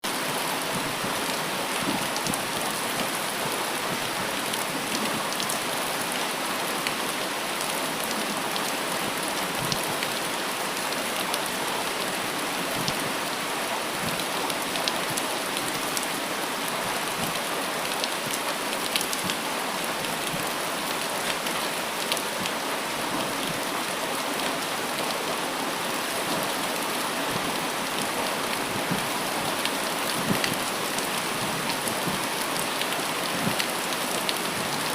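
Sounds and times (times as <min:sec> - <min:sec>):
raindrops hitting close surfaces: 0:00.0 - 0:34.9
steady rain: 0:00.0 - 0:34.9.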